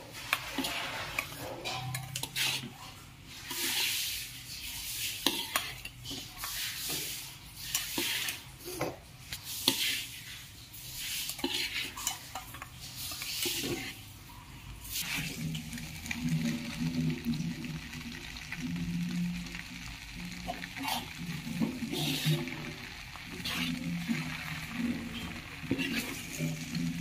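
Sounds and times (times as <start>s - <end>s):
spatula scraping a metal pan: 0.0s - 14.1s, 14.9s - 15.7s, 20.2s - 27.0s
noodles sizzling in a pan: 0.0s - 27.0s.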